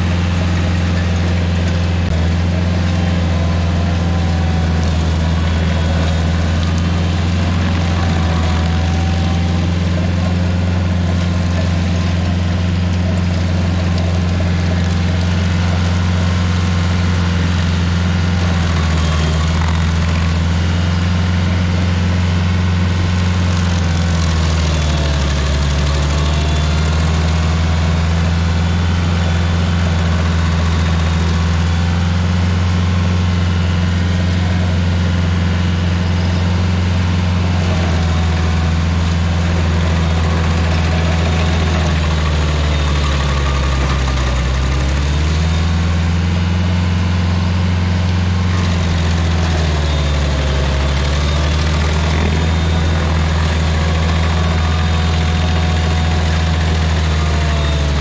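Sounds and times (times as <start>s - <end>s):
stump grinder engine humming: 0.0s - 58.0s.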